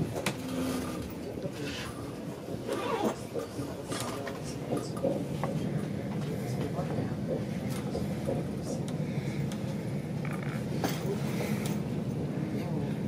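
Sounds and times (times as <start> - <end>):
faint passenger voices: 0.0 - 13.0
train coach rumble: 0.0 - 13.0.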